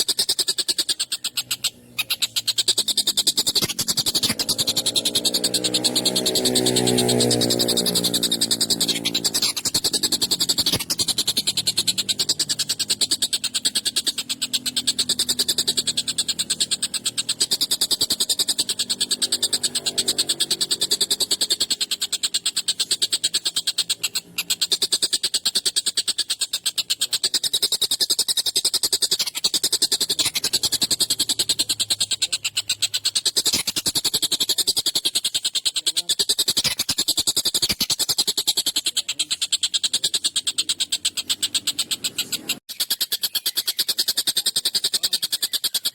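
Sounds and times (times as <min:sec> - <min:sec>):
kingfisher harsh chattering call: 0:00.0 - 0:45.9.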